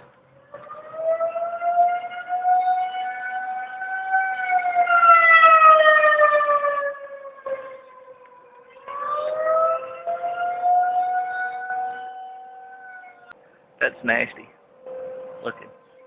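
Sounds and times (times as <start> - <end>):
lower steady siren tone: 0.0 - 13.4, 14.0 - 16.0
tornado warning siren wailing: 0.0 - 16.0.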